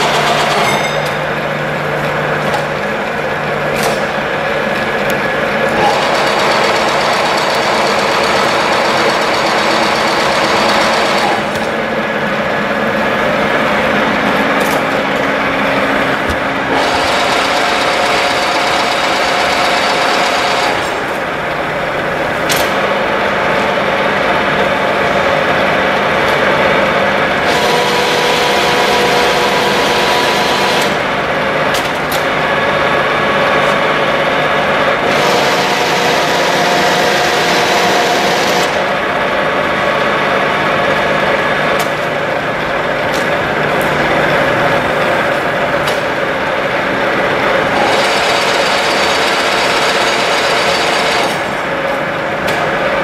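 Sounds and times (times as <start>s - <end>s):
milling machine hum and gear whine: 0.0s - 53.0s.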